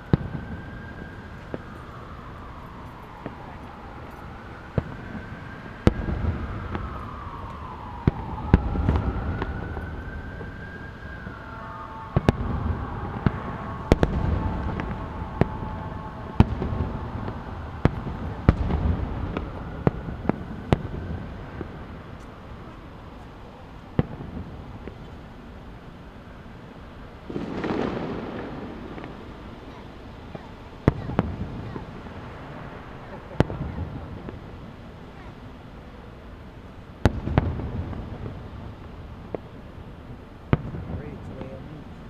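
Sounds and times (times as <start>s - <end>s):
fireworks bursting with sharp bangs: 0.0s - 2.0s, 2.8s - 11.4s, 12.1s - 42.0s
siren wailing: 0.0s - 40.4s
low rumbling: 0.0s - 42.0s.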